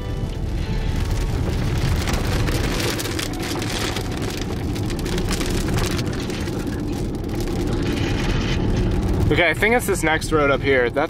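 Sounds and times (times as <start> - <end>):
car road rumble: 0.0 - 11.0
rain on car windshield: 0.0 - 11.0.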